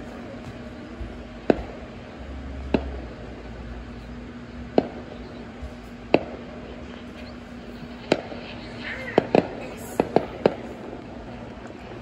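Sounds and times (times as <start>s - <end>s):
distant fireworks bangs: 0.0s - 12.0s
low hum: 0.0s - 12.0s.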